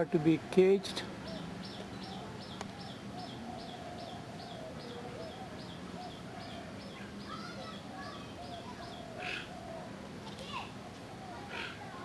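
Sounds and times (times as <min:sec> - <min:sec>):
rising and falling bird calls: 0:01.2 - 0:12.0.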